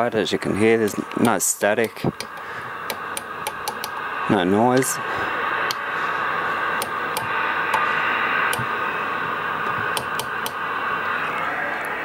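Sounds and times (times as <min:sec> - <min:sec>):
radio speaker hiss: 0:00.0 - 0:12.0.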